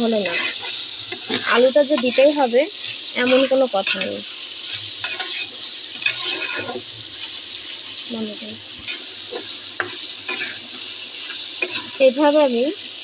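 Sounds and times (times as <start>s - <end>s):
spoon scraping and knocking pan: 0.0s - 7.3s, 8.8s - 12.1s
food sizzling in oil: 0.0s - 13.0s.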